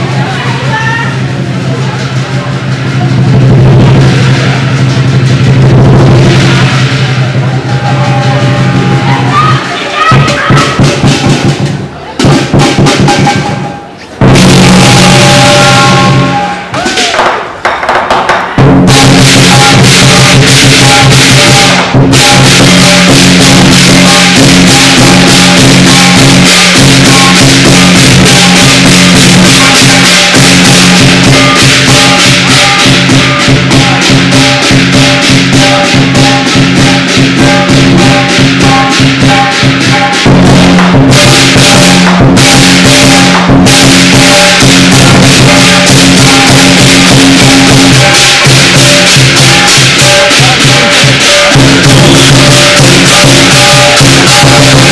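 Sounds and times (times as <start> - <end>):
cymbals clashing: 0.0 - 54.9
drum beaten fast: 0.0 - 54.9
gong ringing: 1.1 - 9.8, 13.1 - 16.7, 18.9 - 54.9.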